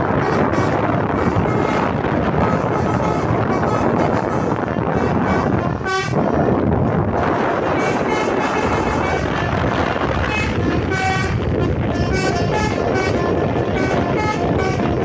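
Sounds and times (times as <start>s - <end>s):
vehicle rumble: 0.0s - 15.0s
musical air horn tooting: 0.1s - 15.0s.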